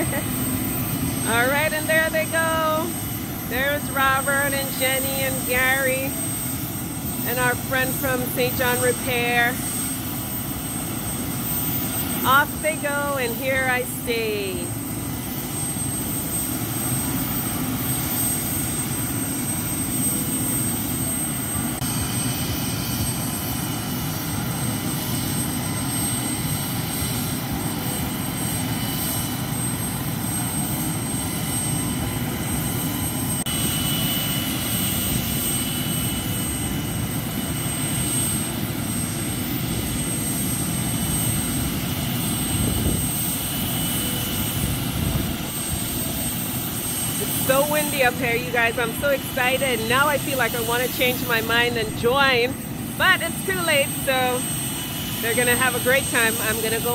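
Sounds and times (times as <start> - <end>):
helicopter turbine whine: 0.0 - 56.9.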